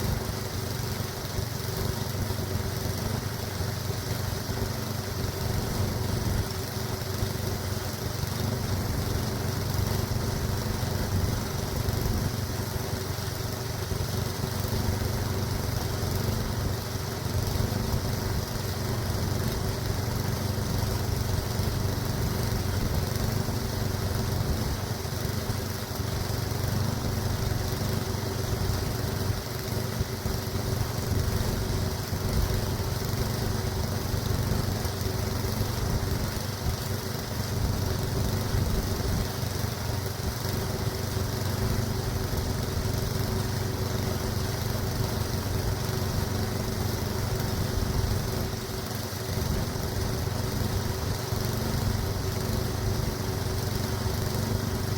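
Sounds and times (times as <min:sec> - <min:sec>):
small gasoline engine running: 0:00.0 - 0:54.9.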